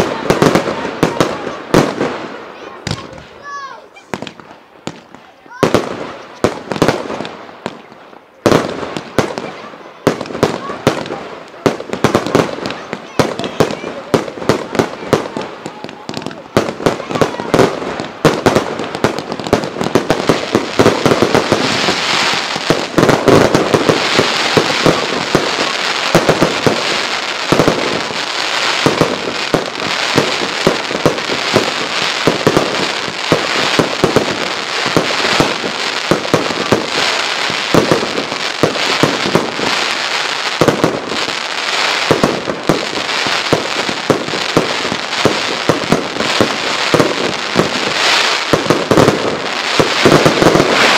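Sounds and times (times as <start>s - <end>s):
fireworks bangs: 0.0s - 50.9s
fireworks crackling: 0.0s - 50.9s.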